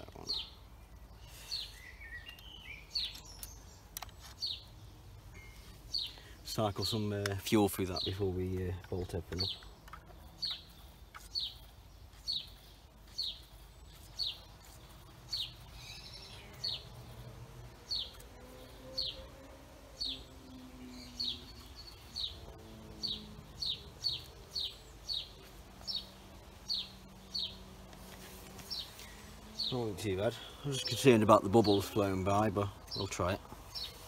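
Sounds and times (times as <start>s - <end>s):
small bird chirping: 0.0s - 34.0s.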